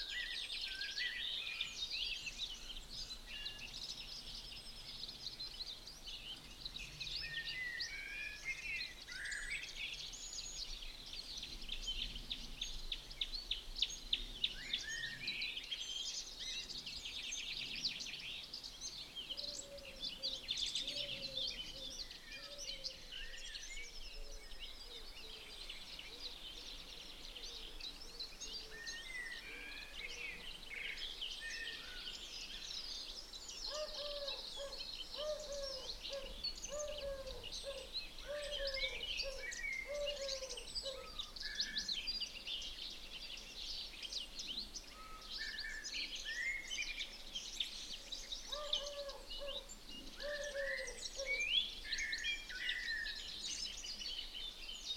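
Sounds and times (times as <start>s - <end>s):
birds chirping and trilling: 0.0s - 54.9s.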